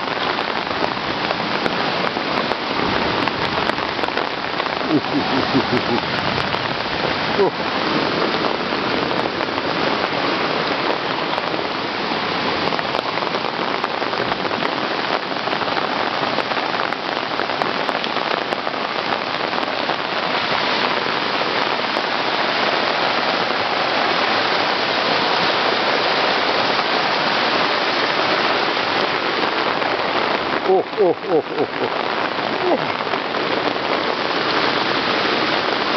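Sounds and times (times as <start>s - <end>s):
torrential rain on standing water: 0.0s - 35.9s.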